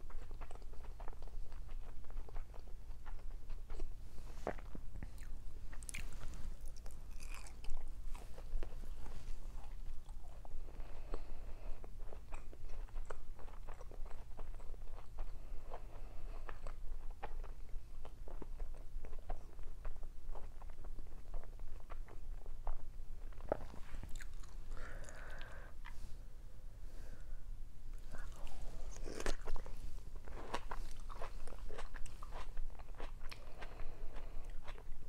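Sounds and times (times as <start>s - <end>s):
person chewing food: 0.0s - 26.2s, 27.9s - 35.0s.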